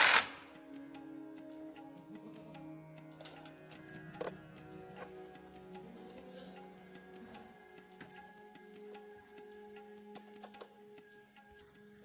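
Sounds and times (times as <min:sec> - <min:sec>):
background music sustained tones: 0:00.0 - 0:12.0.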